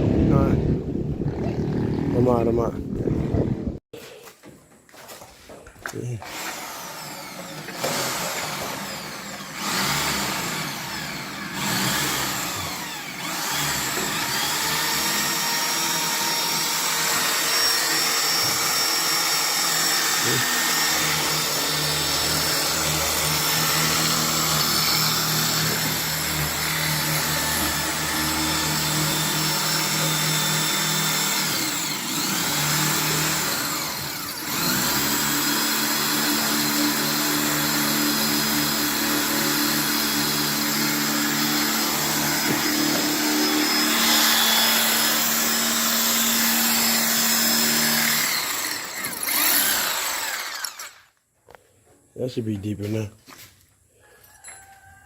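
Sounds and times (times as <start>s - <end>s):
electric power drill running: 6.2s - 51.2s.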